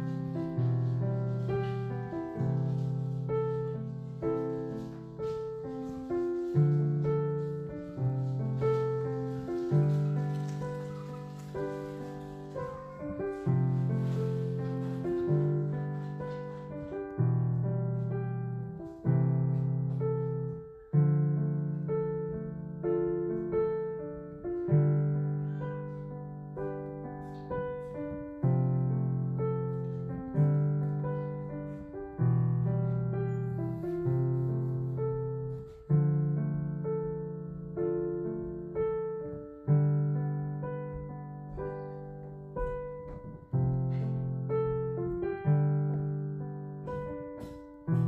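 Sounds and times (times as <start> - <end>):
slow solo piano: 0.0 - 48.0.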